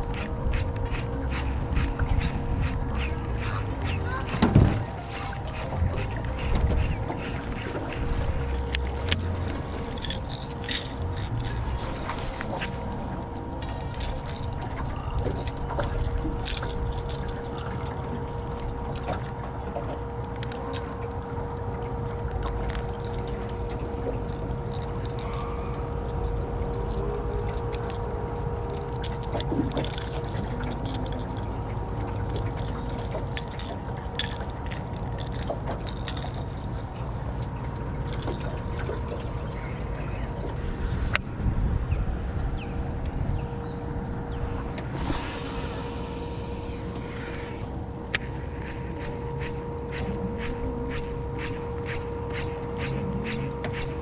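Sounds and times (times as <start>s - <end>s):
low rumble: 0.0s - 54.0s
steady hum: 0.0s - 54.0s
water lapping against boat hull: 0.0s - 54.0s.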